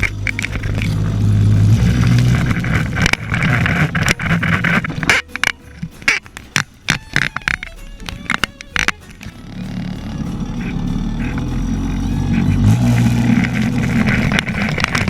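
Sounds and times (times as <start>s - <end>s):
clicks: 0.0s - 15.0s
small dirt bike engine running: 0.0s - 15.0s.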